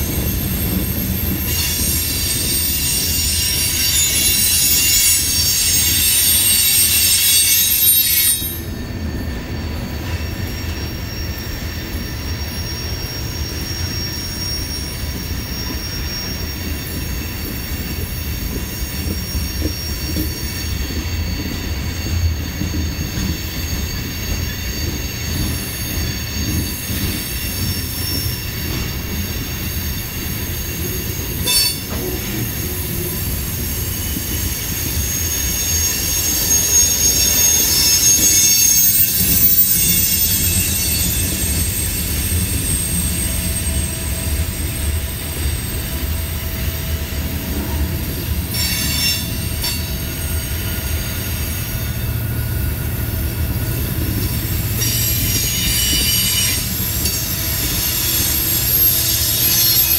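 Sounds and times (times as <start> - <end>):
train cars rumbling on trestle: 0.0 - 59.9
train wheel squeal: 0.0 - 59.9.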